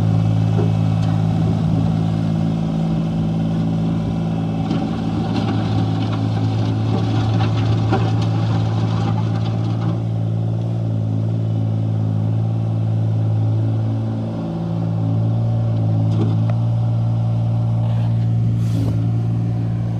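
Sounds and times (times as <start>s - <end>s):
backhoe engine running: 0.0s - 19.9s.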